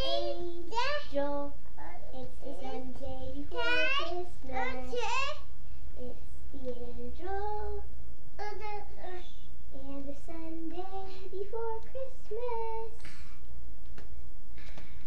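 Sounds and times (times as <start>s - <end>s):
young girl singing: 0.0s - 13.4s
steady low hum: 0.0s - 15.0s.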